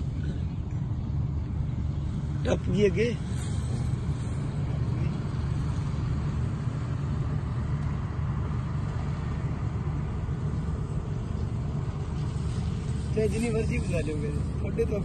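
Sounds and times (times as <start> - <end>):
combine harvester engine rumble: 0.0 - 15.0.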